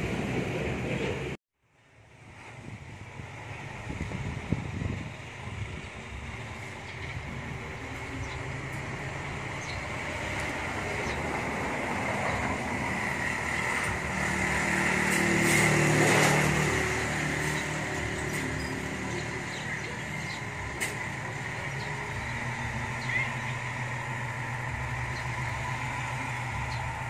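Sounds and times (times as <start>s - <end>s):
dump truck diesel engine reversing: 3.3s - 27.0s.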